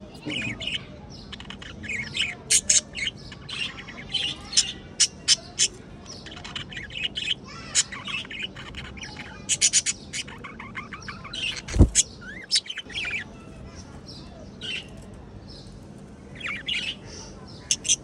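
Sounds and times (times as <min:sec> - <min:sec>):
budgerigars chattering: 0:00.1 - 0:15.0, 0:16.4 - 0:18.0.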